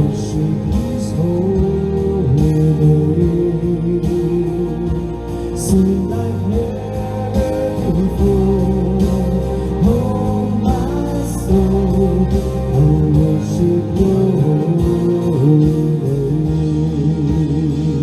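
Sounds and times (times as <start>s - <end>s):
guitar accompaniment: 0.0s - 18.0s
person singing: 0.0s - 18.0s.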